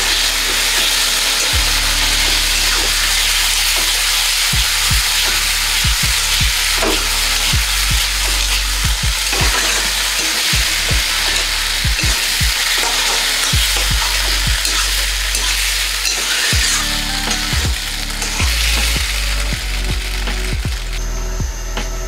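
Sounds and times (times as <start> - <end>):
spatula scraping a pan: 0.0 - 20.5
food sizzling in a wok: 0.0 - 21.4.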